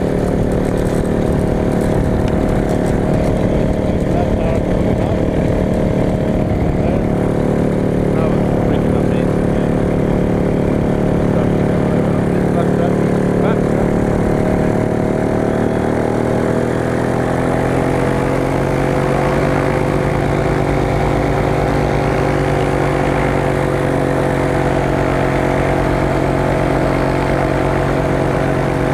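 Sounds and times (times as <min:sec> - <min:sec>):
light aircraft engine running: 0:00.0 - 0:28.9.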